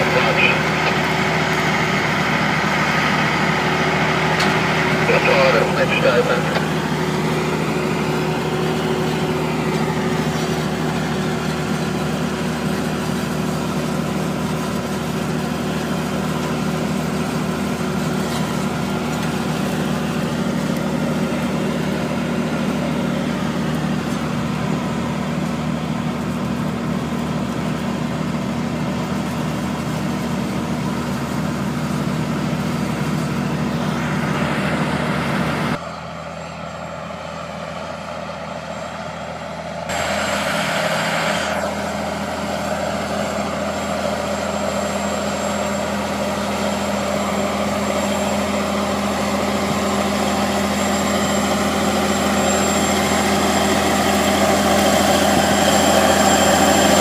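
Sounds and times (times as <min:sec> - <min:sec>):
disc harrow cutting dry soil: 0:00.0 - 0:57.0
tractor diesel engine under load: 0:00.0 - 0:57.0.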